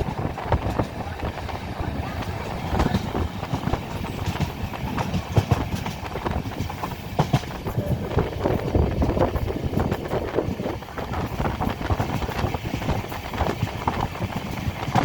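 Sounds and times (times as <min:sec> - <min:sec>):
train rumble: 0:00.0 - 0:15.0
train wheels clattering over joints: 0:00.0 - 0:15.0.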